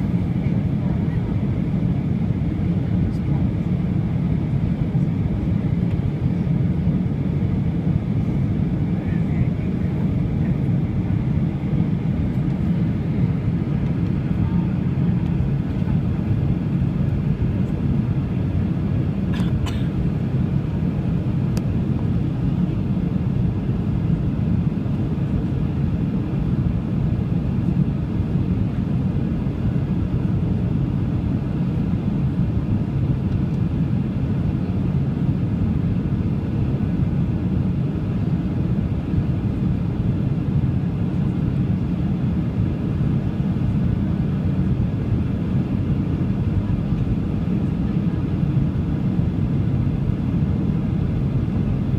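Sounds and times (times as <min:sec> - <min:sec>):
airplane engines rumbling in cabin: 0:00.0 - 0:51.9.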